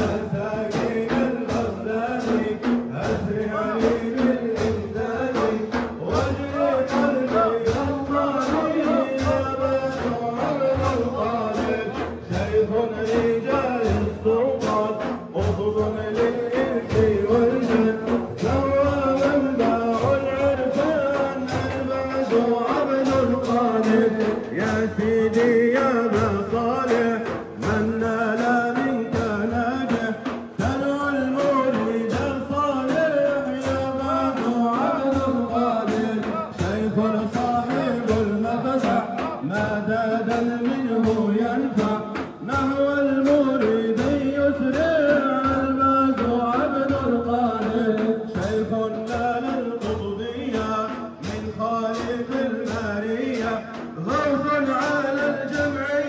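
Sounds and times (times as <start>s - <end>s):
men chanting: 0.0s - 56.0s
steady percussive beat: 0.0s - 56.0s.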